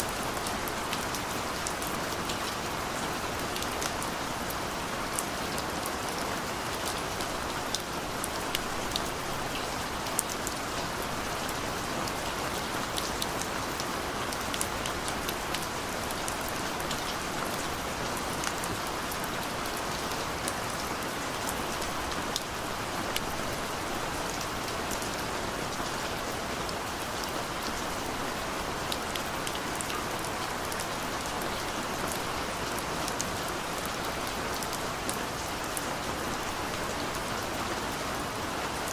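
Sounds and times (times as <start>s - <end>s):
raindrops ticking on surface: 3.4s - 37.7s.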